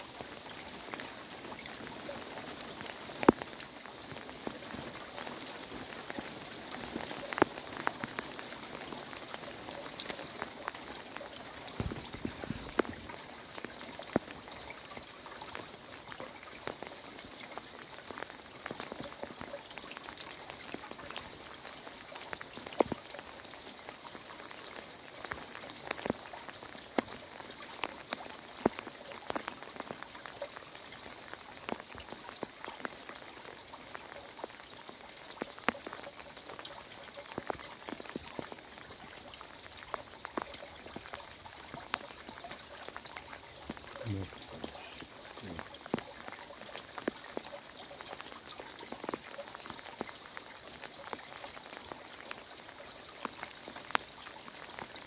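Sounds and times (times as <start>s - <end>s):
heavy rain falling: 0.0s - 55.0s
raindrops tapping close surfaces: 0.0s - 55.0s.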